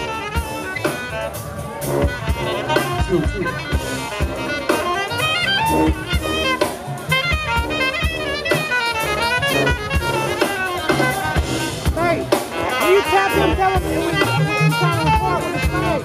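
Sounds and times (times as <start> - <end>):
saxophone runs: 0.0 - 16.0
sousaphone bass line: 0.0 - 16.0.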